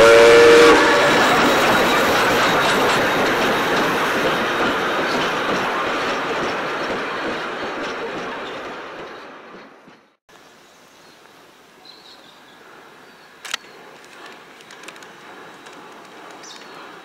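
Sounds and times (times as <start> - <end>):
train cars rolling on rails: 0.0 - 10.2, 13.6 - 17.0.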